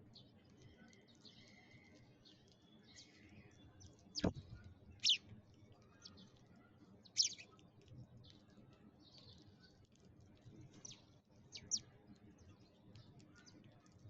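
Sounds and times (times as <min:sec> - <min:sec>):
sparrows chirping: 0:00.0 - 0:09.8, 0:10.6 - 0:14.0.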